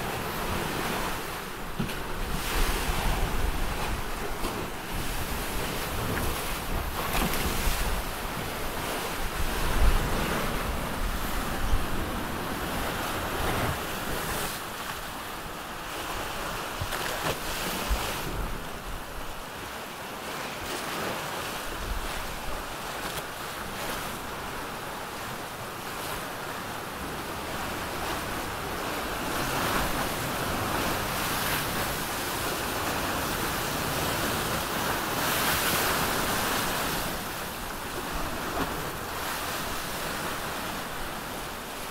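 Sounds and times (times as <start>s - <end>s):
sea rushing past hull: 0.0s - 41.9s.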